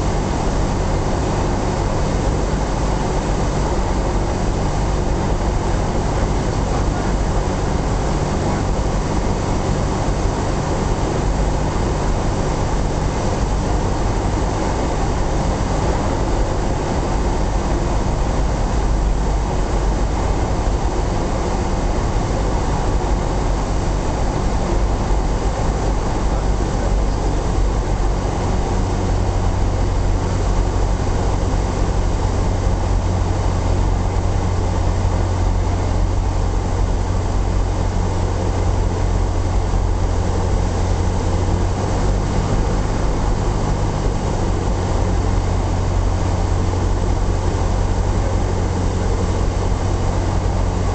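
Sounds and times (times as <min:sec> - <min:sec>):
aircraft engine and propeller: 0:00.0 - 0:50.9.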